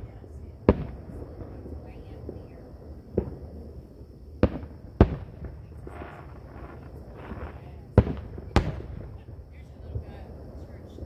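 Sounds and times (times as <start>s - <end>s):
fireworks bangs with echo: 0.0s - 11.0s.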